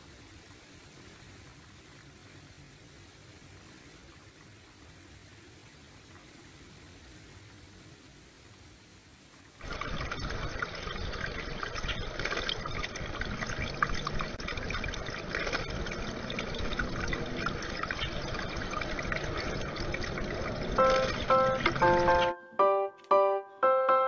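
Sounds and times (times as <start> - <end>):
waterfall trickling into pond: 0.0 - 22.4.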